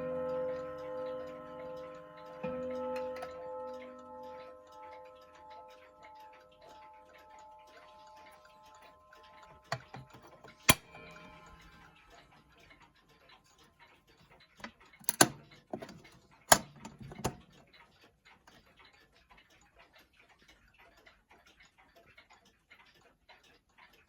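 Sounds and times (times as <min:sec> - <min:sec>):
clock ticking: 0:00.0 - 0:24.0.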